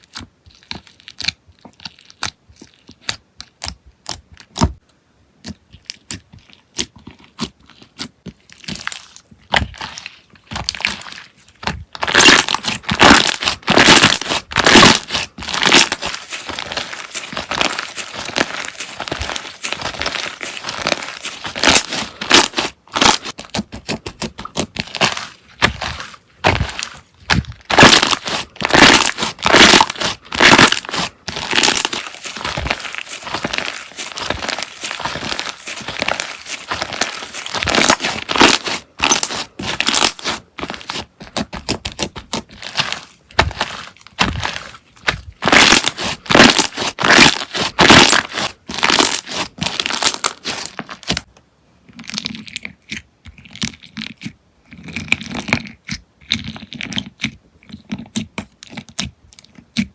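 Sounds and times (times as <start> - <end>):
slime squelching by hand: 0.0 - 4.8, 5.4 - 51.3.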